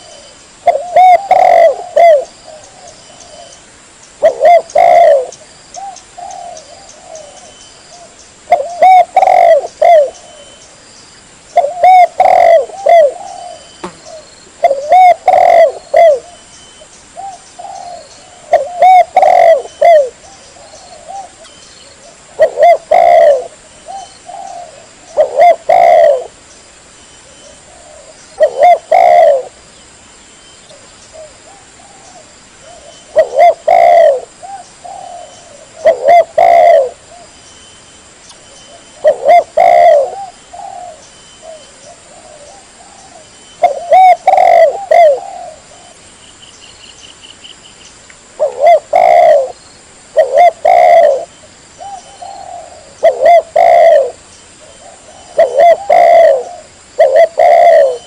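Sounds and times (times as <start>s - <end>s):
dove cooing: 0.0s - 3.6s, 4.2s - 10.6s, 11.5s - 16.5s, 17.2s - 26.4s, 27.2s - 29.6s, 30.7s - 37.4s, 38.7s - 46.0s, 48.4s - 49.6s, 50.2s - 58.0s.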